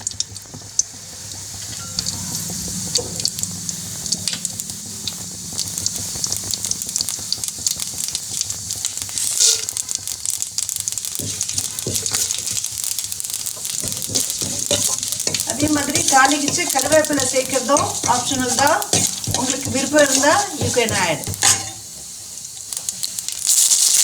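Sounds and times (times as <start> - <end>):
crackles and pops: 0.0 - 24.0
spices sizzling in hot oil: 0.0 - 24.0.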